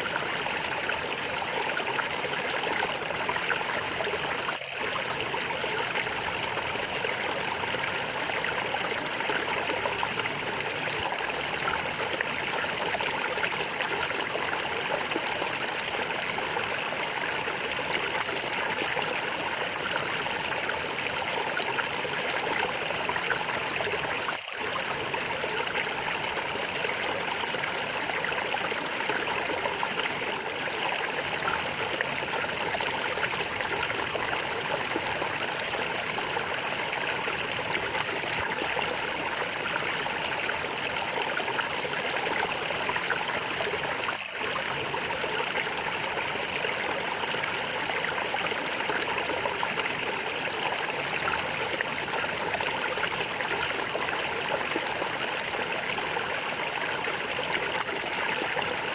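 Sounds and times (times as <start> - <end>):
stream water flowing and gurgling: 0.0 - 58.9.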